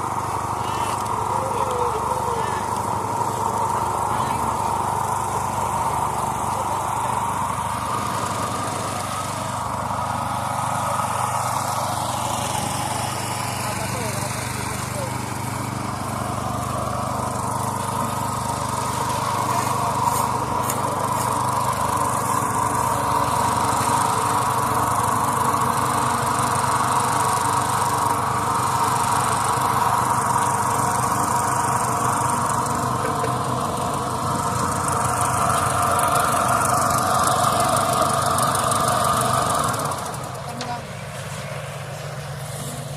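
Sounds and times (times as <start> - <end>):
small engine running steadily: 0.0 - 42.9.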